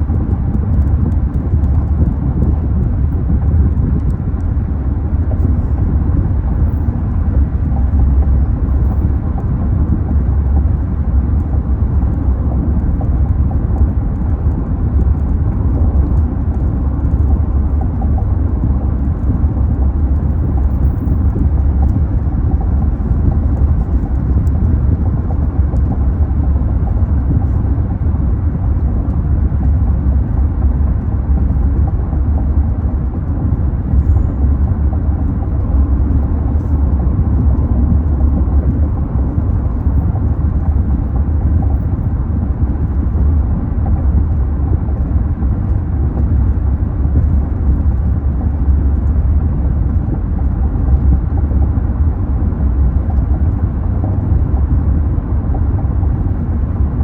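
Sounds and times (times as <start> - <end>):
loud low rumbling: 0.0 - 57.0.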